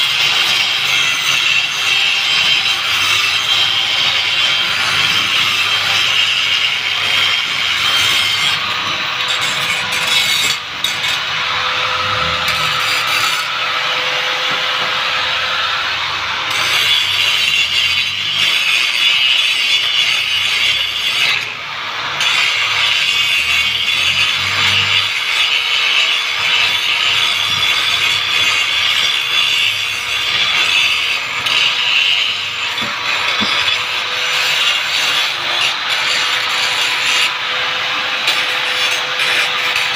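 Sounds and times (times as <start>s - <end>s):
power tool grinding metal: 0.0s - 39.9s.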